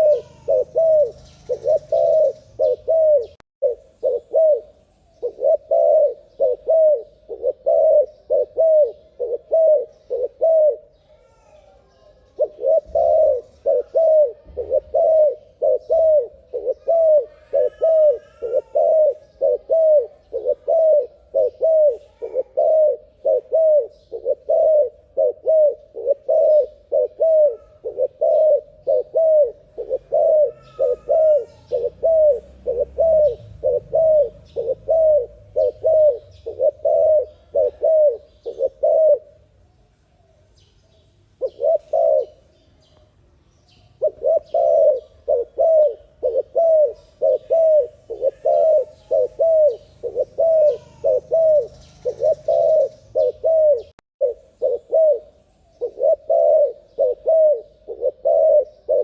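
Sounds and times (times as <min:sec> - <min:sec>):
dove cooing: 0:00.0 - 0:39.6, 0:41.4 - 0:42.6, 0:43.8 - 0:59.0
bird chirping: 0:00.0 - 0:59.0.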